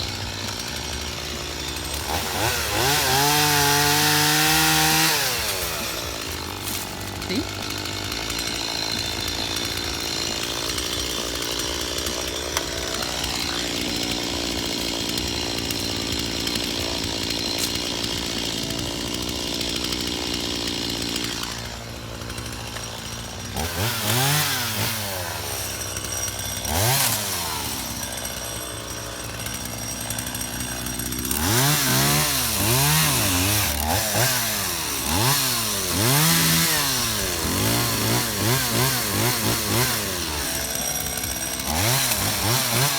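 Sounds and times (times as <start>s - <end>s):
chainsaw running and revving: 0.0s - 42.9s.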